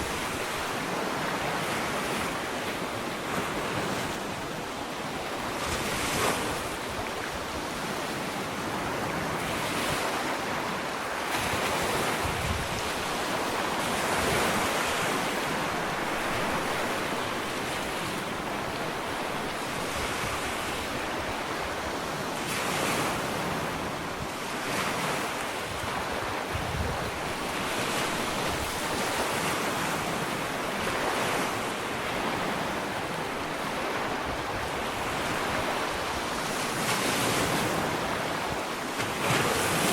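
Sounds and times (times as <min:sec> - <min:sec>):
ocean waves breaking on beach: 0:00.0 - 0:39.9
wind on microphone: 0:05.4 - 0:39.9.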